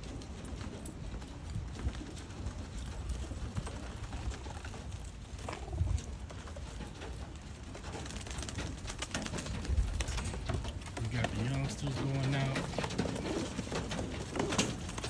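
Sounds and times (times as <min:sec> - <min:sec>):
pigeons cooing: 0:02.3 - 0:15.0.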